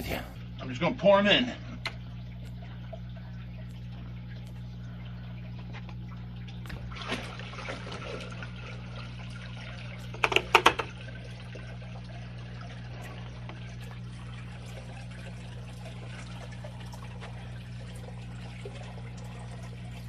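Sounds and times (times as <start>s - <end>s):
water pouring into aquarium: 0.0s - 20.0s.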